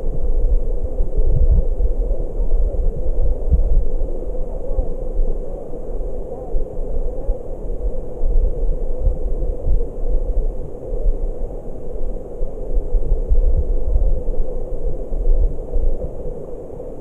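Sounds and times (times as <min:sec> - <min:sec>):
muffled underwater stream rumble: 0:00.0 - 0:17.0.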